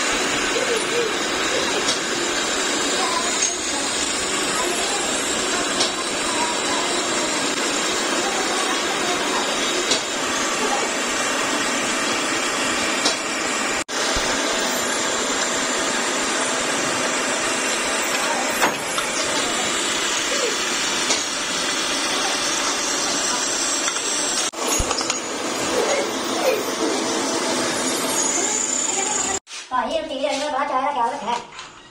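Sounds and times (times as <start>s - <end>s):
metalworking machine hissing: 0.0s - 29.7s.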